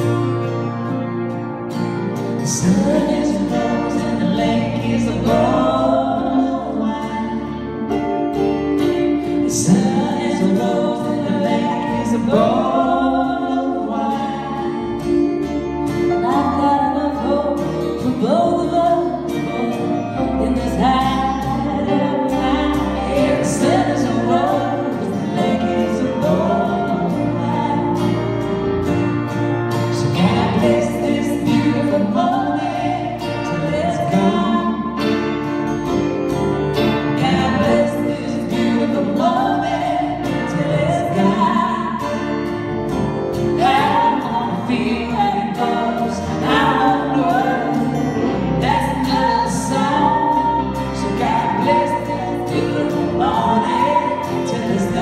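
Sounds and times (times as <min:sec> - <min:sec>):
guitar accompaniment: 0:00.0 - 0:55.0
woman singing: 0:02.2 - 0:29.0, 0:29.8 - 0:35.4, 0:37.0 - 0:42.6, 0:43.3 - 0:55.0.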